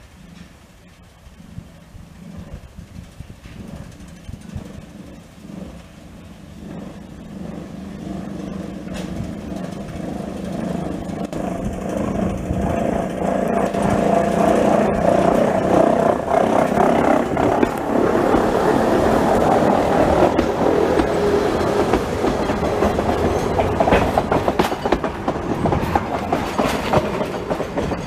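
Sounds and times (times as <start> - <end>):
railcar passing with hum and rumble: 0.0 - 28.0.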